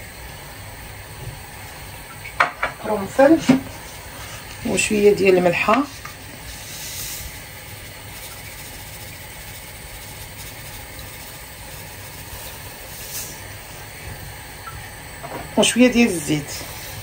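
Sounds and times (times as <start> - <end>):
pot hissing on stove: 0.0 - 17.0.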